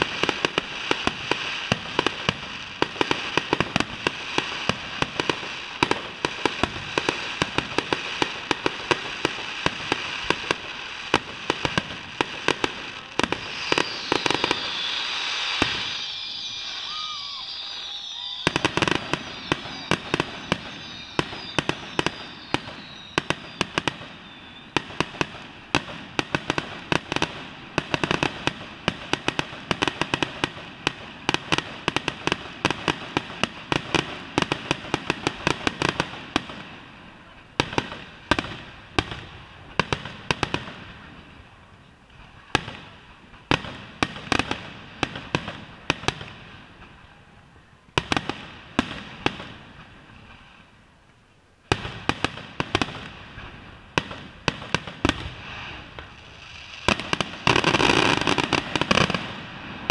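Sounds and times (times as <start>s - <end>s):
fireworks bursts and crackling bangs: 0.0s - 59.9s.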